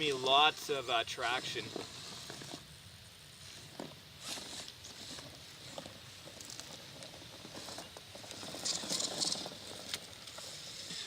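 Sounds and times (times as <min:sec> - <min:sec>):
toy car tires on rock: 0:00.0 - 0:11.0.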